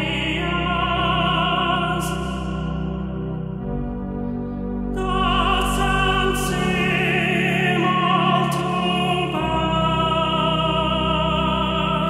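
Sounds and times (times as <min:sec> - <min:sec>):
slow ambient music: 0:00.0 - 0:12.0.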